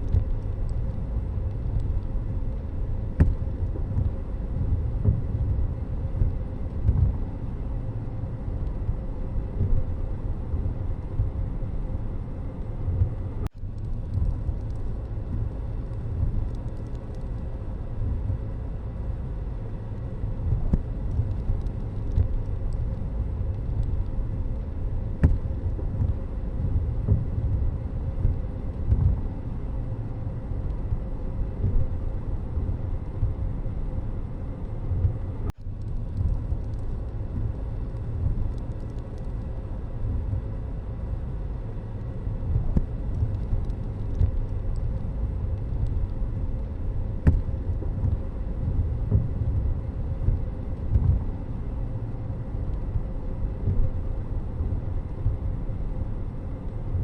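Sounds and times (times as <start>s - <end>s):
road vehicle rumble: 0.0s - 57.0s.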